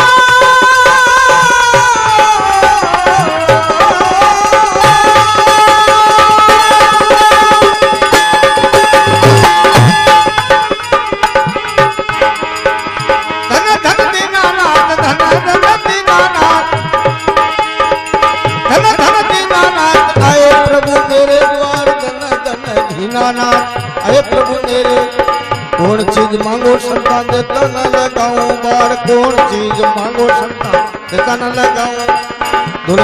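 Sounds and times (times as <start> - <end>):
hand drum rhythm: 0.0 - 33.0
harmonium chords: 0.0 - 33.0.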